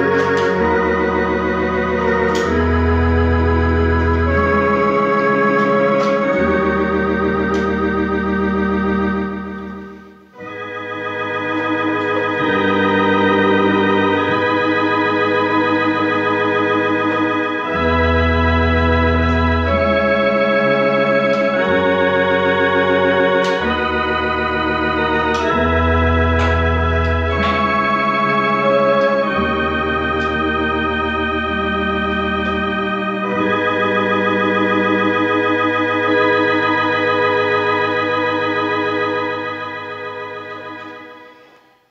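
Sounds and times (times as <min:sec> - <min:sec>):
electronic organ chords with vibrato: 0:00.0 - 0:41.9
sustained organ bass notes: 0:00.0 - 0:41.9.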